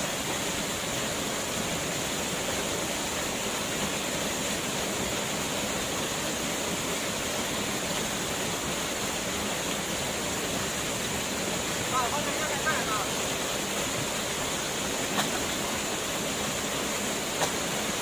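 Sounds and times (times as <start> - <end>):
waterfall pouring: 0.0 - 18.0.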